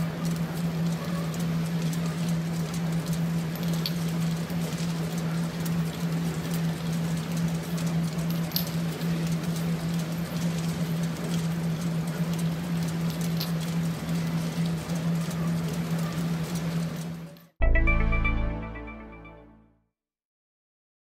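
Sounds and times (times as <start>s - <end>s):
light clicks and rattles: 0.2s - 17.5s.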